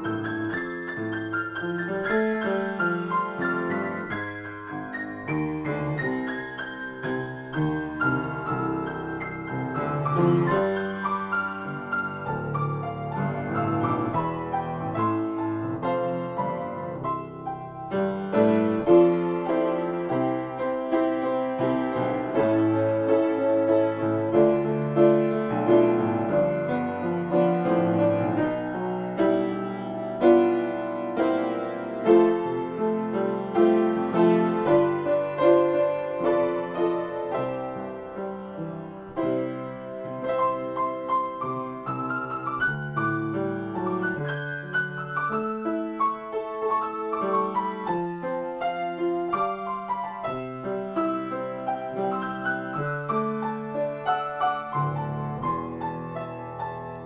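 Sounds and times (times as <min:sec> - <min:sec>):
solo piano improvisation: 0:00.0 - 0:57.0.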